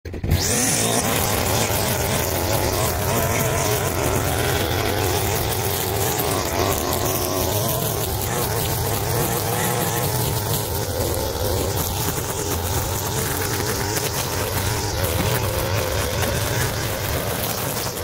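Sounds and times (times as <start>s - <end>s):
brushcutter engine running: 0.1s - 18.0s.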